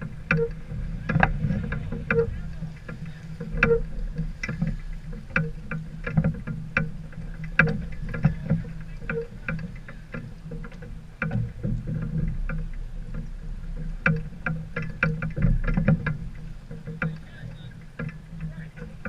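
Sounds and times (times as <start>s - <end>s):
sharp knocks and splashes: 0.0s - 19.0s
steady low rumble: 0.0s - 19.0s.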